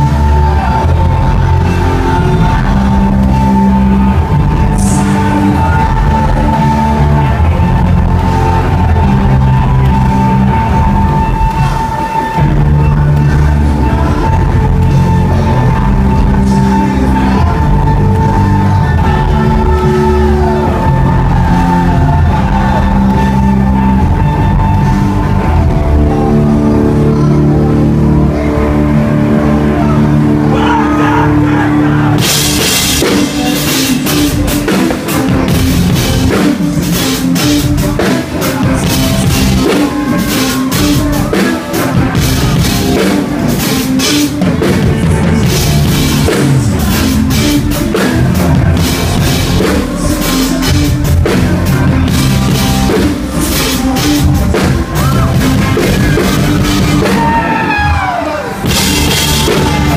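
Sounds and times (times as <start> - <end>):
bass guitar: 0.0 - 59.9
drums: 0.0 - 59.9
electric guitar: 0.0 - 59.9
lead singer singing: 0.0 - 59.9
steady synth sound: 0.0 - 59.9.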